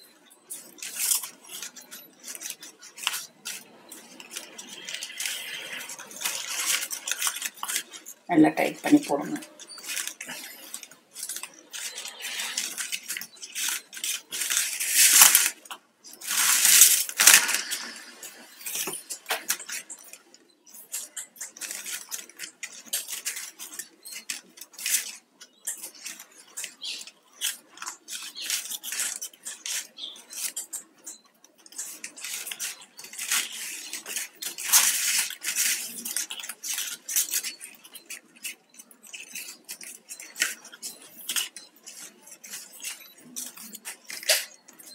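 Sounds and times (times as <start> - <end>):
plastic strips scraping: 0.1 - 44.9
plastic strips clicking: 0.5 - 8.2, 9.5 - 44.9.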